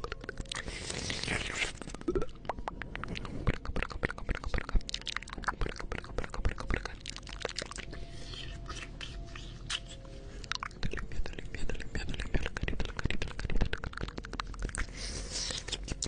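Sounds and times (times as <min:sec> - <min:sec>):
wet tongue and lip clicks: 0:00.0 - 0:16.0.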